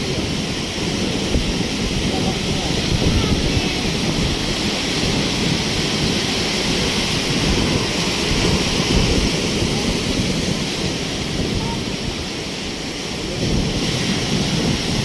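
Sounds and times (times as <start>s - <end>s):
ocean waves breaking in surf: 0.0s - 15.0s.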